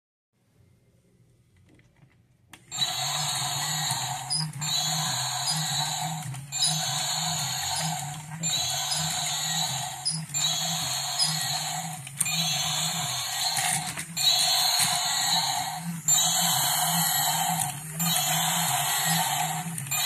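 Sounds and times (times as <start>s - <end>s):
steady low hum: 2.7s - 20.0s
toy electronic growl: 2.7s - 20.0s.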